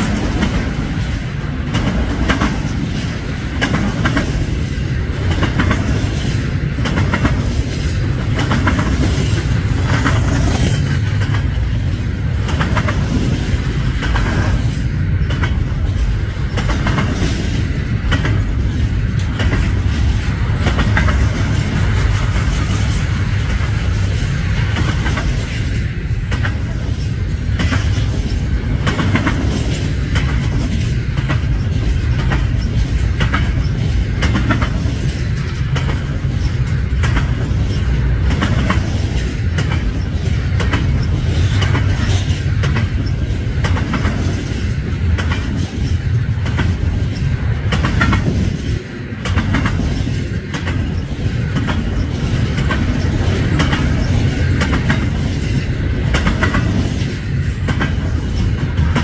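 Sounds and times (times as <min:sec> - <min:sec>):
wheels clacking over rail joints: 0:00.0 - 0:59.0.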